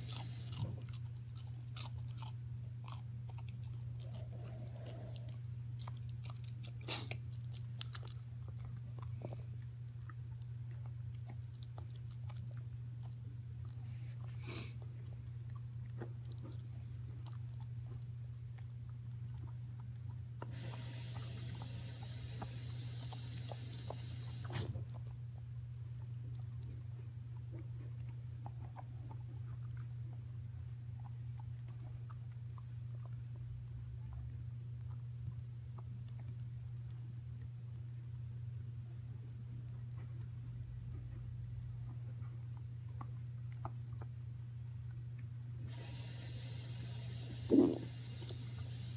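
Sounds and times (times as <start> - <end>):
puppy chewing and licking: 0.0 - 48.9.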